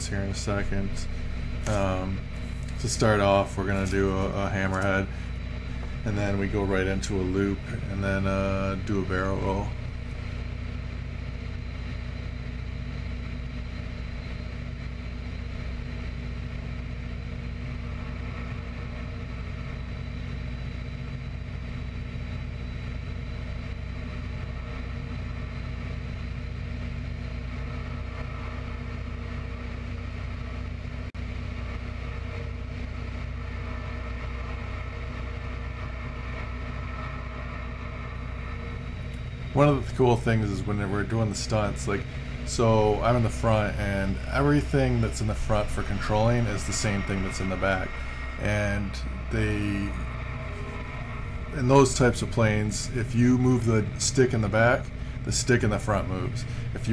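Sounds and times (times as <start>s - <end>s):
airplane engine droning: 0.0s - 56.9s.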